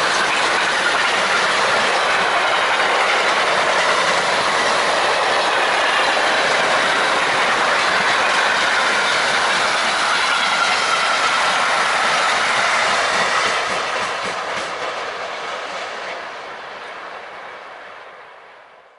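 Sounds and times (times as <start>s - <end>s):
freight train rolling on rails: 0.0s - 18.9s.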